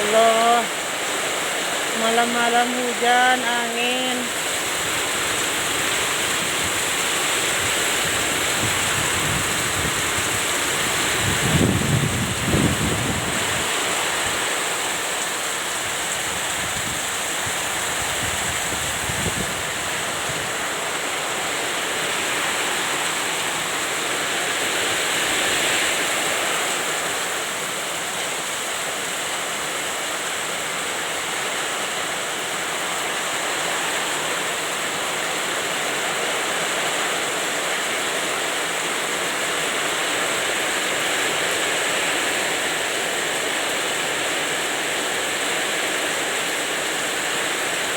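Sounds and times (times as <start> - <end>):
heavy rain and wind: 0.0 - 47.9.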